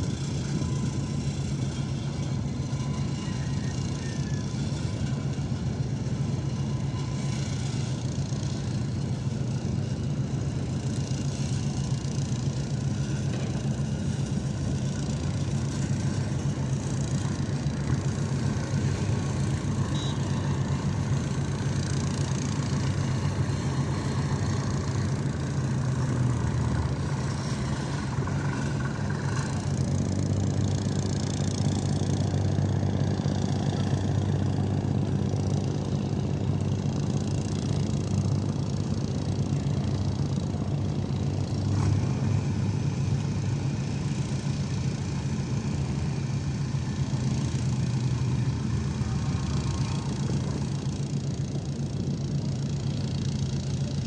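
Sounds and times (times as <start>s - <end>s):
large engine humming: 0.0s - 54.0s.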